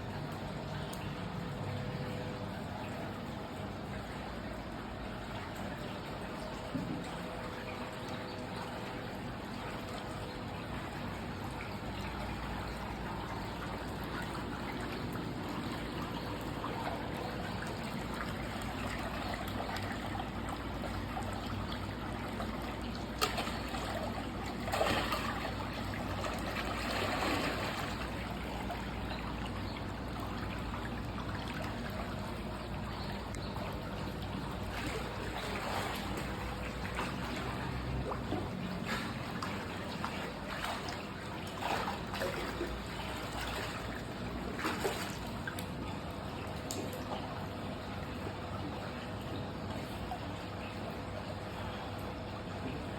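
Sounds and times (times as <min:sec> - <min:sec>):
water trickling and flowing: 0:00.0 - 0:52.9.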